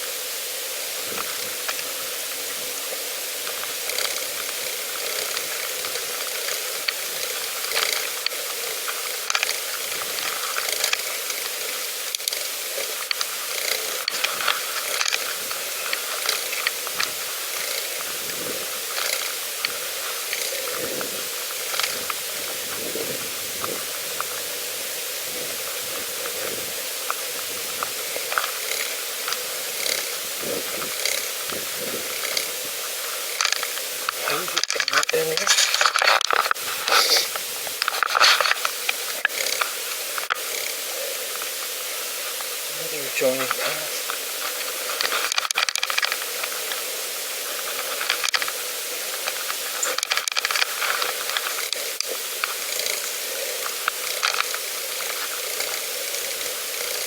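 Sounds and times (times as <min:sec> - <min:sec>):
tyre and wind hiss: 0:00.0 - 0:57.0
bicycle clicks and rattles: 0:03.3 - 0:23.0, 0:25.7 - 0:42.6, 0:43.2 - 0:57.0.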